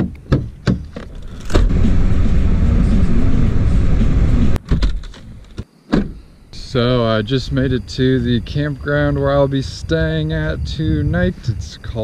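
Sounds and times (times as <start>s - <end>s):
car driving rumble: 0.0s - 12.0s
road and wind noise: 0.0s - 12.0s.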